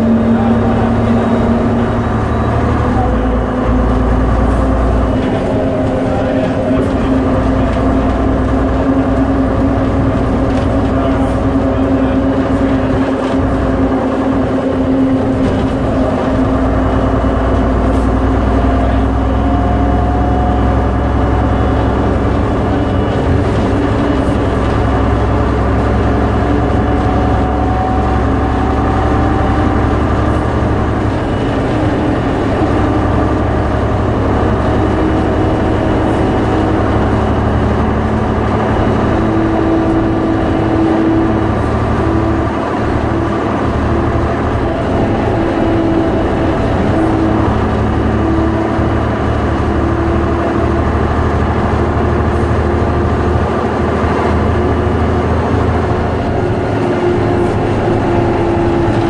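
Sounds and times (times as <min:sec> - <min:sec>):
bus engine drone: 0:00.0 - 0:59.0
rising whine: 0:00.0 - 0:59.0.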